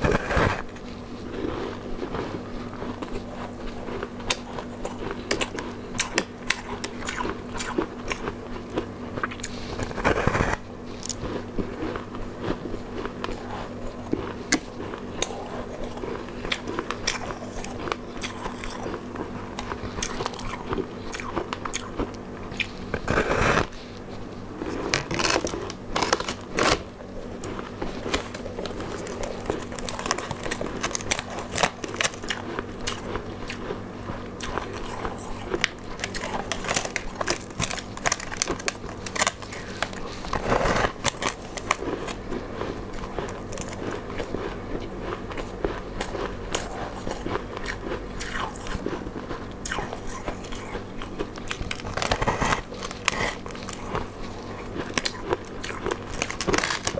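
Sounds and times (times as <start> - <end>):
chewing crunchy ice: 0.0 - 56.9
faint low hum: 0.0 - 56.9.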